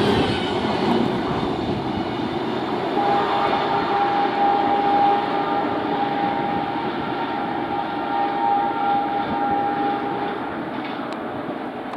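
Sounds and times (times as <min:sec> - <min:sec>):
train rushing and rumbling on rails: 0:00.0 - 0:11.9.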